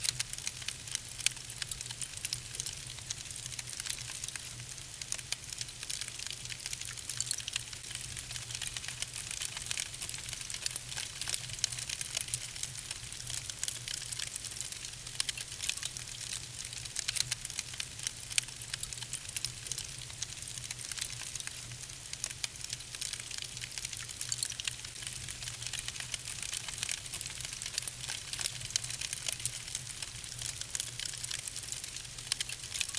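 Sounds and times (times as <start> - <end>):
wood fire crackling and popping: 0.1 - 32.9.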